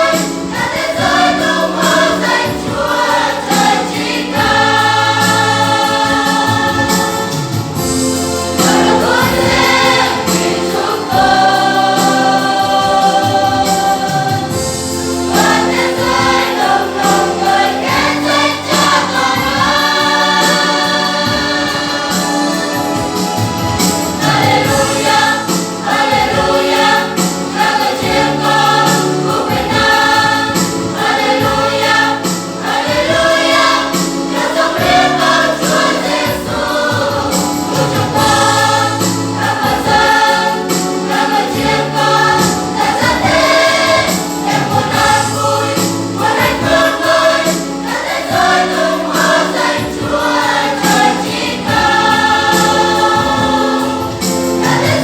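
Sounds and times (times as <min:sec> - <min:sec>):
choir singing a hymn: 0:00.0 - 0:55.0
instrumental accompaniment: 0:00.0 - 0:55.0.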